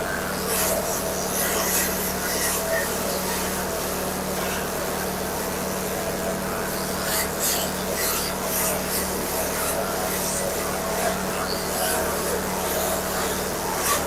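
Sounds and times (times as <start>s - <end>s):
grass chopper humming: 0.0s - 14.0s
shredding rasp of forage: 0.0s - 14.0s.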